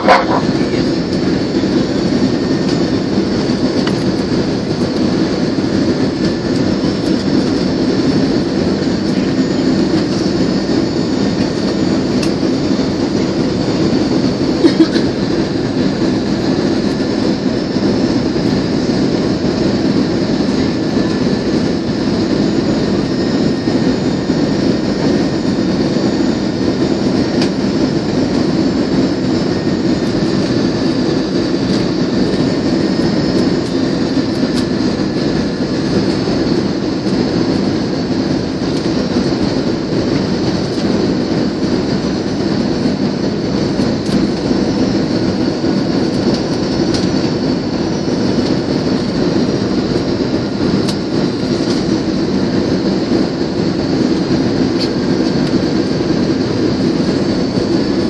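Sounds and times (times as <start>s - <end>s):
jet engine and airflow noise: 0.0s - 58.0s.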